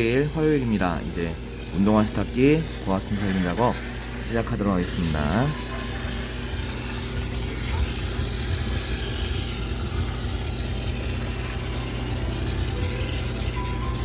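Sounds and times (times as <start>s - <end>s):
low machine hum: 0.0s - 14.0s
steam hissing: 0.0s - 14.0s.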